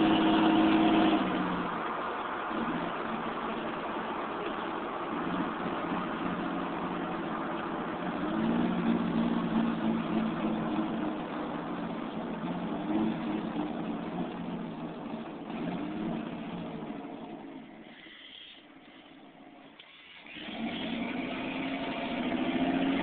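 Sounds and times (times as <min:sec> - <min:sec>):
diesel truck exhaust: 0:00.0 - 0:23.0.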